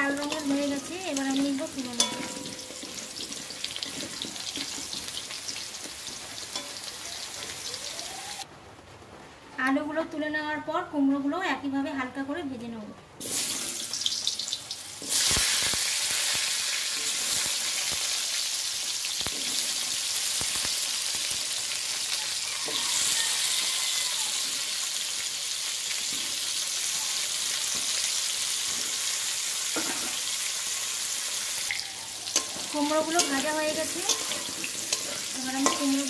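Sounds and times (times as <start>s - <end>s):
vegetables sizzling in hot oil: 0.0s - 8.5s, 13.2s - 36.0s.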